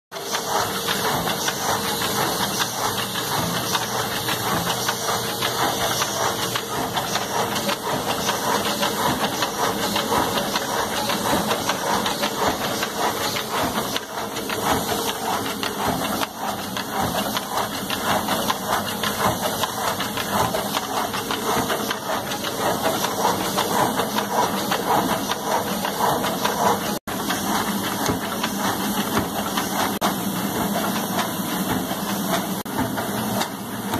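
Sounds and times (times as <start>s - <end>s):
fast continuous machine clattering: 0.1s - 33.9s
machine hissing: 0.2s - 33.9s.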